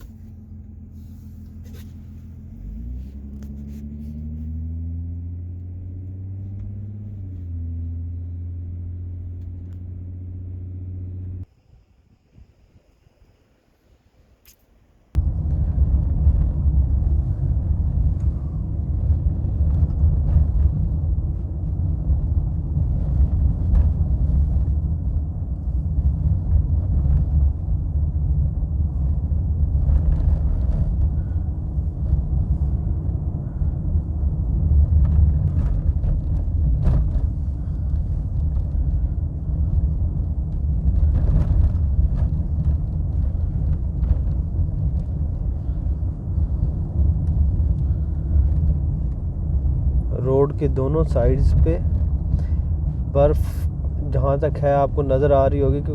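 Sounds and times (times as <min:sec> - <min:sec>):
car engine and tyre noise: 0:00.0 - 0:55.9.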